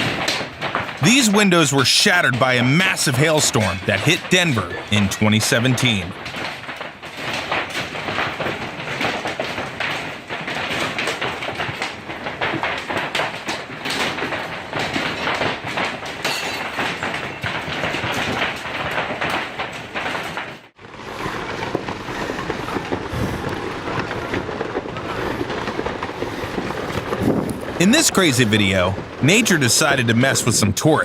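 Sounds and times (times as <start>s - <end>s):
hailstones pelting down: 0.0s - 31.0s.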